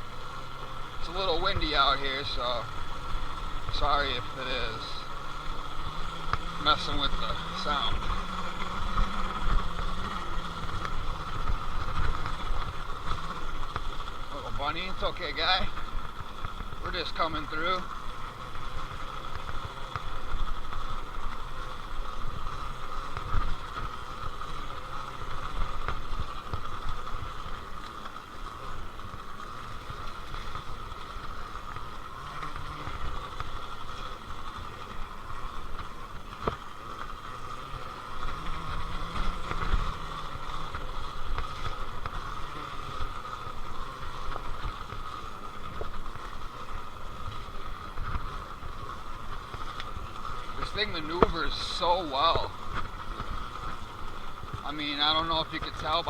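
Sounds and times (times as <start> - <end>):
electric motor whine: 0.0 - 56.0
tyres and suspension on rough ground: 0.0 - 56.0.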